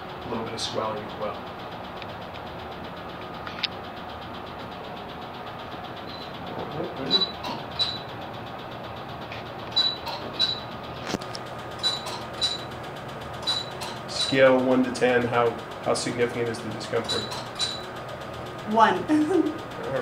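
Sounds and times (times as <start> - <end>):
laser unit hum: 0.0 - 20.0.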